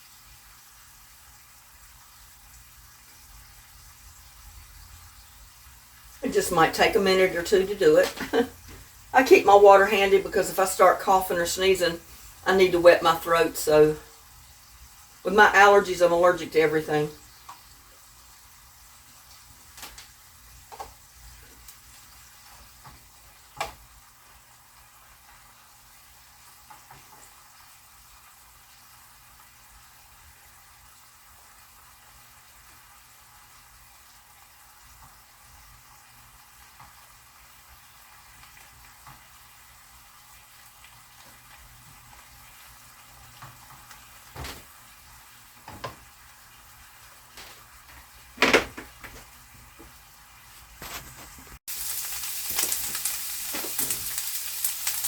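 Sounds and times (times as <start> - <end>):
chicken sizzling in oil: 0.0 - 48.6, 49.2 - 55.0.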